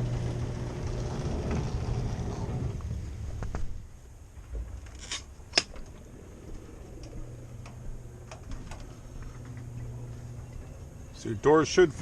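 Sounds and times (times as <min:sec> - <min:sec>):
garage door humming: 0:00.0 - 0:03.9, 0:04.5 - 0:12.0.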